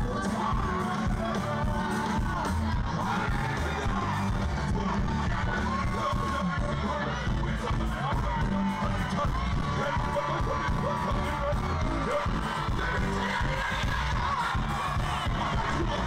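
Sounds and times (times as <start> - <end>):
crowd voices: 0.0 - 16.0
live band with heavy bass: 0.0 - 16.0.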